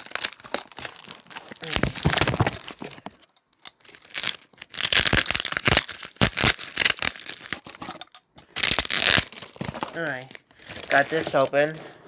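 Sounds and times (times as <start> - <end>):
cardboard and tape tearing: 0.0 - 3.2, 3.8 - 11.9.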